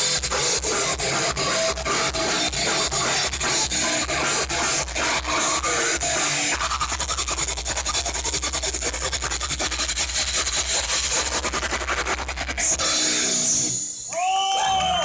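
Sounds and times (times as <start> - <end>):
live metal band playing: 0.0 - 14.0.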